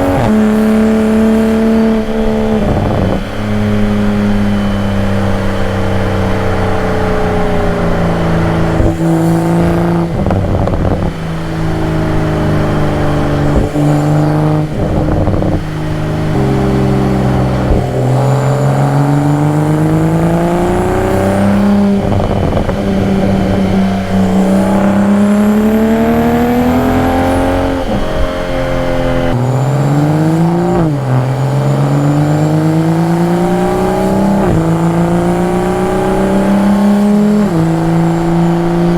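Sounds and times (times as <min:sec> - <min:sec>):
car engine revving while driving: 0:00.0 - 0:38.9.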